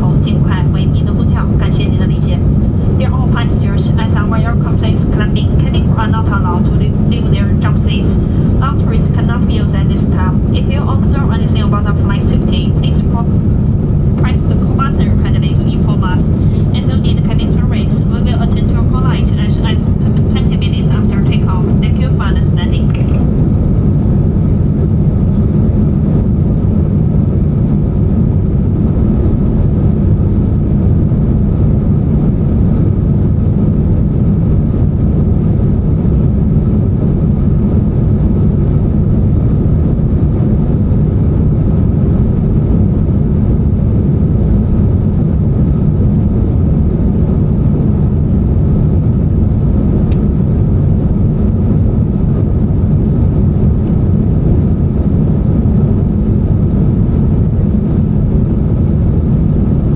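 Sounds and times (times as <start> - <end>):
faint steady hum: 0.0 - 59.9
jet engines and airflow drone: 0.0 - 59.9.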